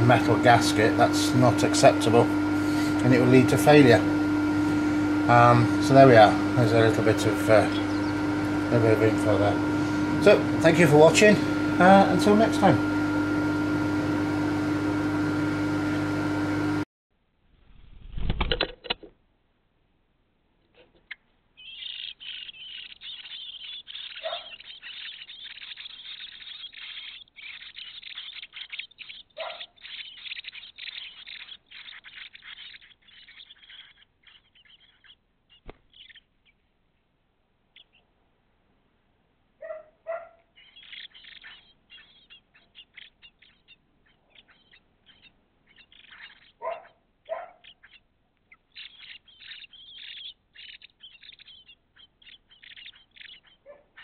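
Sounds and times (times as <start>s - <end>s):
nestlings high chirping: 0.0s - 16.8s, 20.8s - 36.8s, 37.7s - 38.1s, 39.6s - 54.0s
short lower bird calls: 0.1s - 13.6s, 21.0s - 36.7s, 39.6s - 54.0s.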